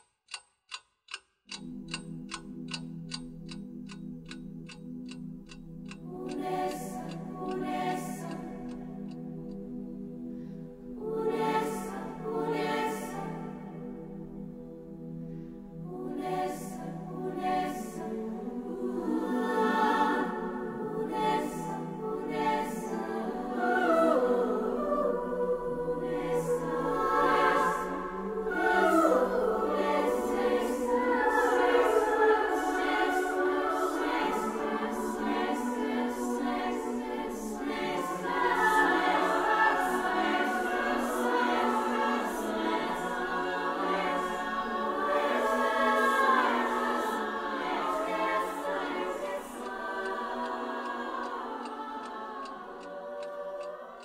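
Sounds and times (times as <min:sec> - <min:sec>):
choir-like voices singing: 0:01.5 - 0:54.0.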